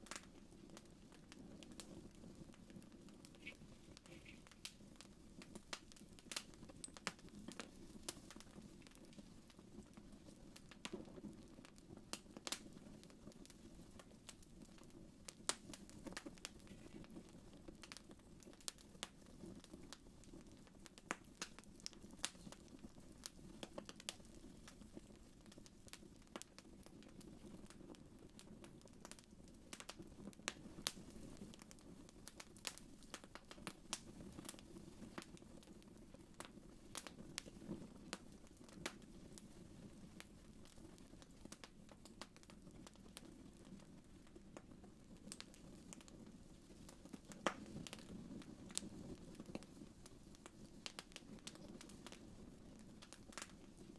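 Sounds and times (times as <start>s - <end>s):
low rumble of burning fire: 0.0s - 53.9s
wood fire crackling: 0.0s - 53.9s.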